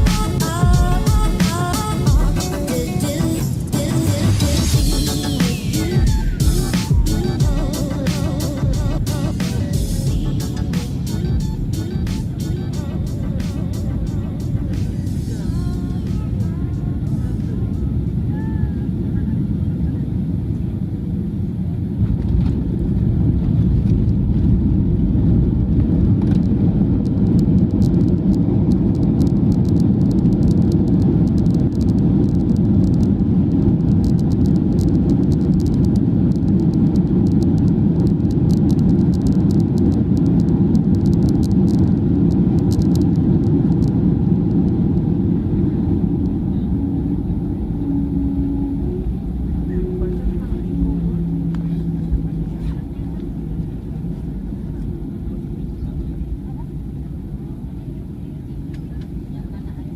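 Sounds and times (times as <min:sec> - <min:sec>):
vehicle rumbling in motion: 0:00.0 - 0:59.9.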